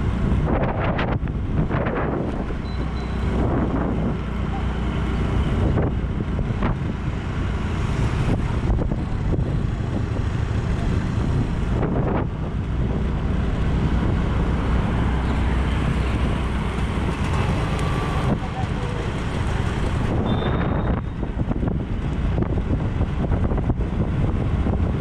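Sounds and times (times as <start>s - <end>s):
wind buffeting microphone: 0.0s - 4.4s, 5.0s - 25.0s
vehicle and road rumble: 0.0s - 25.0s.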